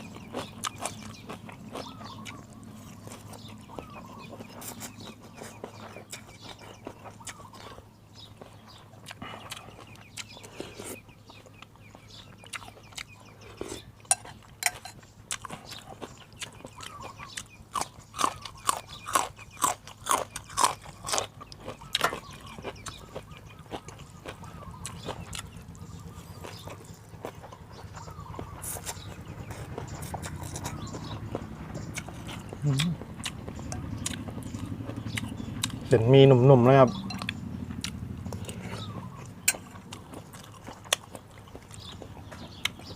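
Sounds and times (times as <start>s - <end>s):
chewing and smacking: 0.0s - 42.9s
low steady hum: 0.0s - 42.9s.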